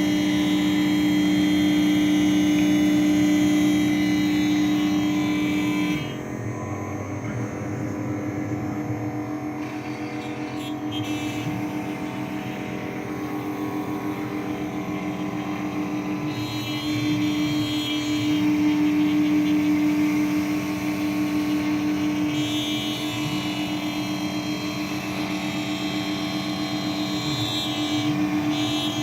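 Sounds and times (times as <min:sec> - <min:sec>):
motors humming changing pitch: 0:00.0 - 0:29.0
router spindle whine: 0:00.0 - 0:29.0.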